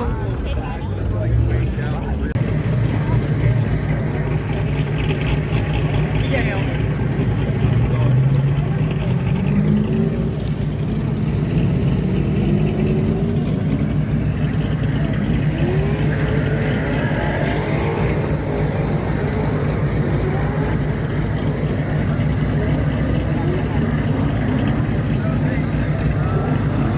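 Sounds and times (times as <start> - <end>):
car engines running: 0.0 - 26.9
car revving: 0.0 - 26.9.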